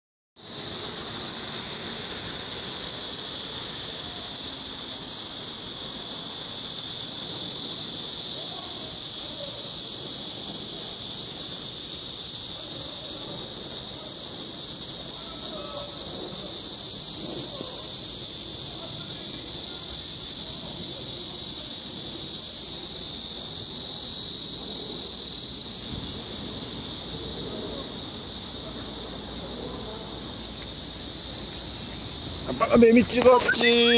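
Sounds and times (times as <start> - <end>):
cicada buzzing: 0.5 - 12.4, 13.8 - 33.9.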